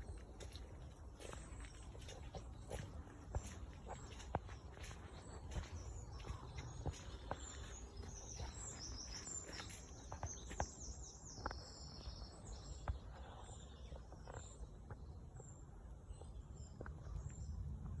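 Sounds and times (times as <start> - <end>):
songbird chirping: 0.0 - 17.9.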